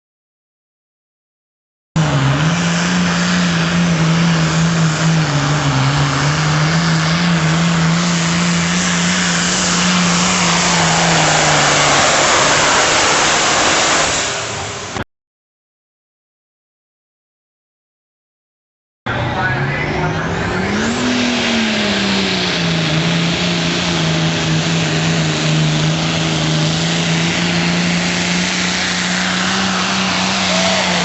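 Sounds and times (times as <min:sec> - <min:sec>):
tractor engine running flat out: 0:02.0 - 0:15.0, 0:19.1 - 0:31.0.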